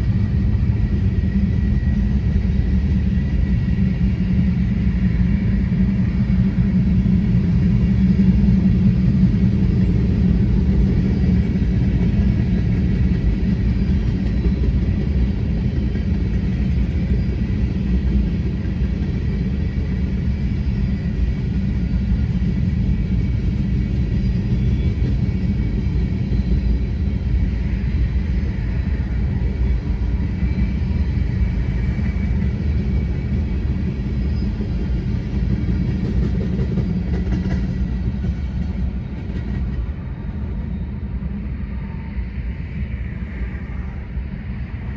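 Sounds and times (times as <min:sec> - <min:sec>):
freight train rolling past: 0:00.0 - 0:44.9
steel wheels rumbling on rails: 0:00.0 - 0:44.9.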